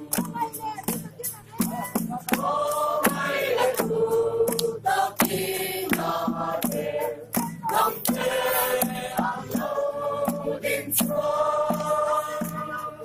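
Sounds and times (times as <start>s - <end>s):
crowd singing a carol: 0.0s - 0.7s, 1.7s - 13.0s
sharp percussive beats: 0.0s - 13.0s.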